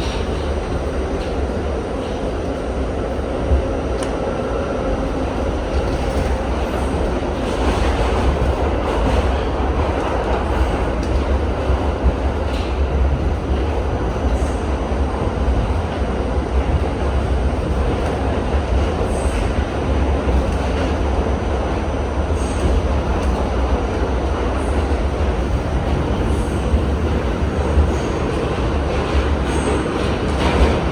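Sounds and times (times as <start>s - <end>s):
subway train rumbling: 0.0s - 30.9s.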